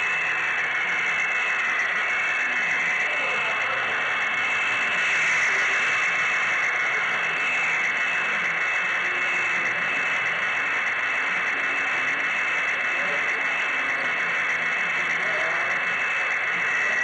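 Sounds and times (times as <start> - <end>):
model train whirring on track: 0.0 - 17.0
thin high whine: 0.0 - 17.0.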